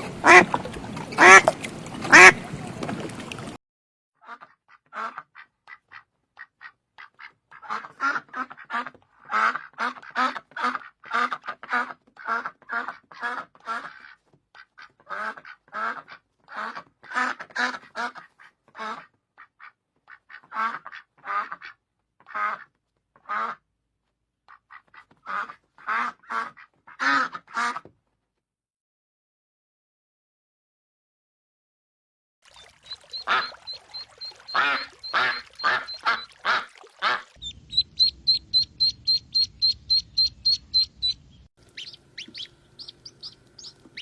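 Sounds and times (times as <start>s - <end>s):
duck quacking: 0.0s - 2.9s, 4.2s - 23.6s, 24.5s - 27.9s, 32.9s - 44.0s.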